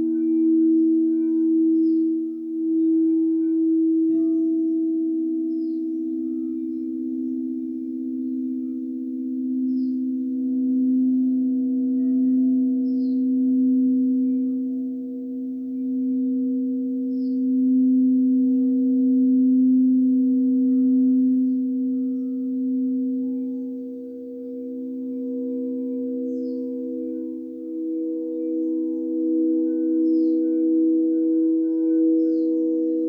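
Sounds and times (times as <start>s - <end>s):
crystal singing bowls: 0.0s - 33.0s.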